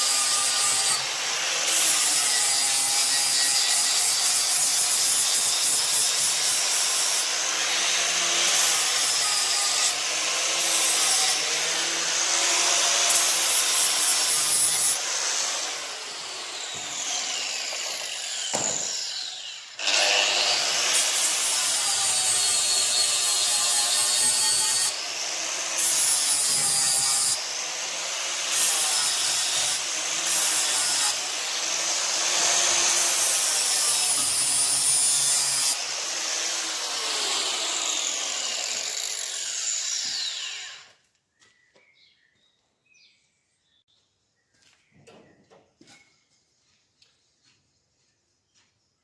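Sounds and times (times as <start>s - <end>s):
power tool grinding steel: 0.0s - 41.0s.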